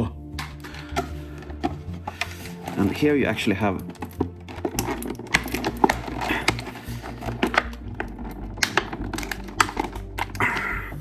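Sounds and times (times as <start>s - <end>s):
plastic toy parts clicking: 0.4s - 11.0s.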